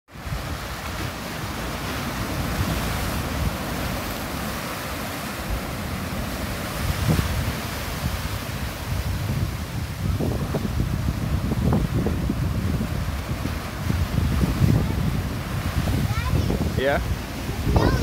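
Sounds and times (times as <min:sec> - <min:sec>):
ocean waves crashing on rock: 0:00.1 - 0:18.0.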